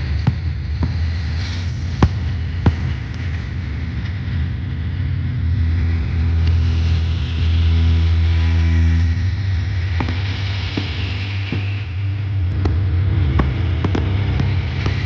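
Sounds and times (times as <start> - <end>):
engine humming: 0.0 - 15.0
pitched drone: 0.0 - 15.0.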